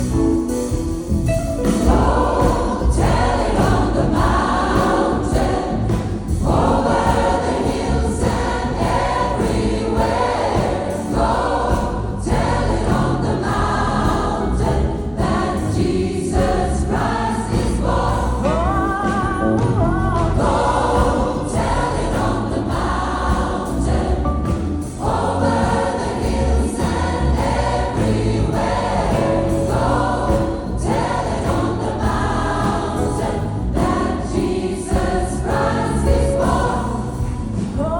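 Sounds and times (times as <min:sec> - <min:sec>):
band playing: 0:00.0 - 0:37.9
gospel choir singing: 0:00.0 - 0:37.9.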